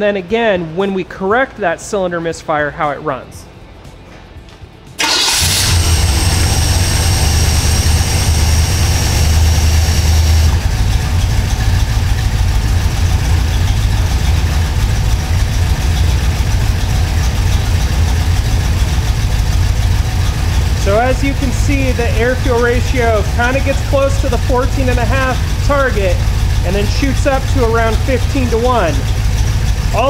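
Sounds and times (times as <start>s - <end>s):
engine starting and idling roughly: 5.0s - 30.0s.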